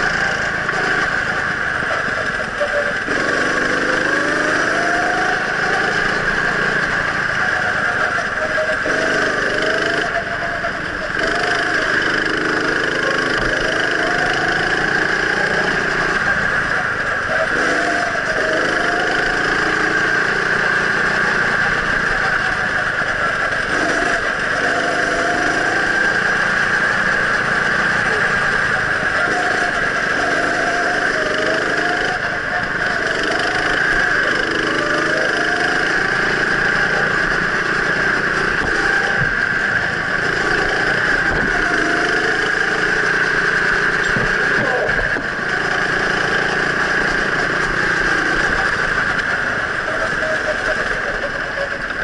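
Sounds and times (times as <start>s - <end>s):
go-kart engine revving: 0.0s - 52.0s.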